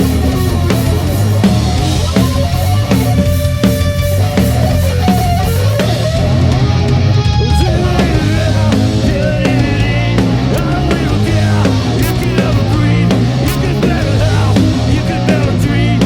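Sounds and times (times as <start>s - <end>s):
bass: 0.0s - 16.0s
drums: 0.0s - 16.0s
electric guitar: 0.0s - 16.0s.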